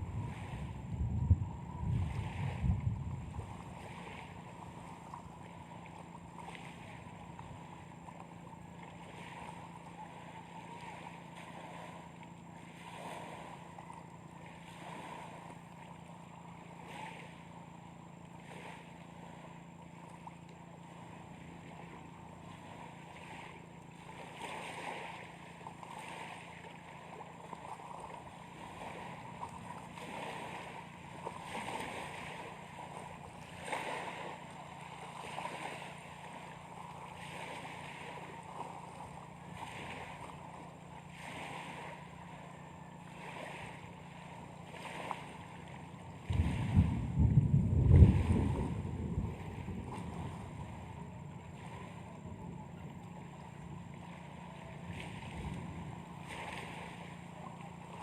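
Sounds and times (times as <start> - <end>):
lake waves: 0.0 - 58.0
wind: 0.0 - 58.0.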